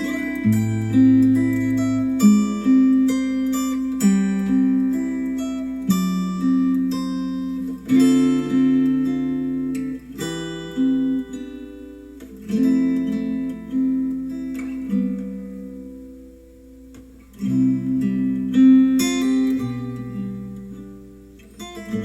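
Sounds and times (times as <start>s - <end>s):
strummed acoustic guitar chords: 0.0s - 22.0s.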